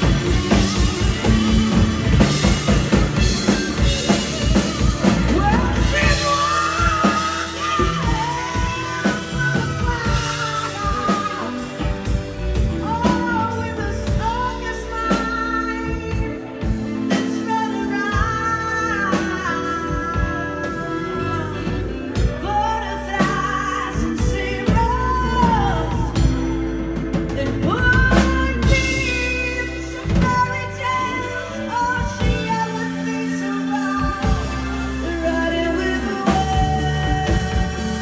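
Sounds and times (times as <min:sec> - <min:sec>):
live rock band playing: 0:00.0 - 0:38.0
woman singing: 0:00.0 - 0:38.0.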